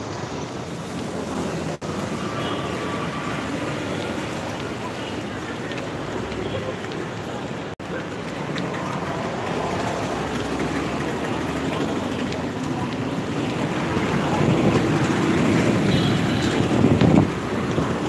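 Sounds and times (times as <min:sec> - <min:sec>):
street traffic noise: 0:00.0 - 0:18.0
vehicle approaching: 0:00.0 - 0:18.0.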